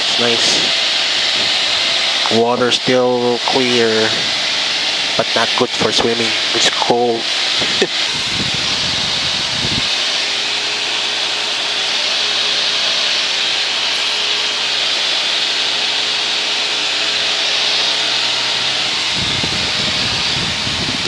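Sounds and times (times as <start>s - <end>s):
light aircraft engine and propeller drone: 0.0s - 21.0s.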